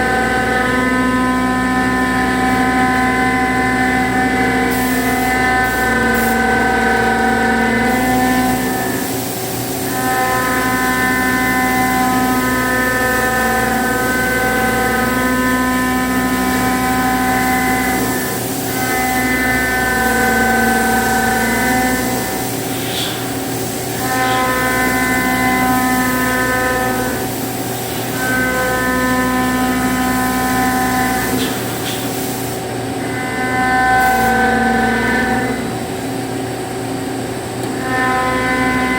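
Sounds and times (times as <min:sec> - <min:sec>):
milling cutter cutting metal: 0:00.2 - 0:09.1, 0:09.8 - 0:32.4.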